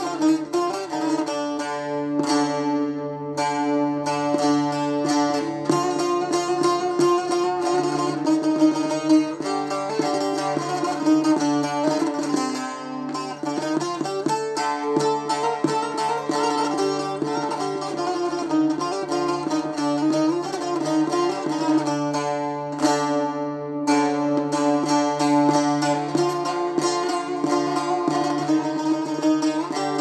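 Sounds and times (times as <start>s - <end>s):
long-necked lute picked with plectrum: 0.0s - 30.0s.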